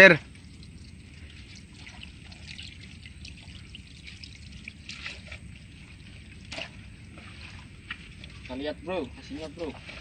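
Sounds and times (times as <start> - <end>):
steady low rumble: 0.0 - 10.0
water trickling and dripping: 0.0 - 10.0.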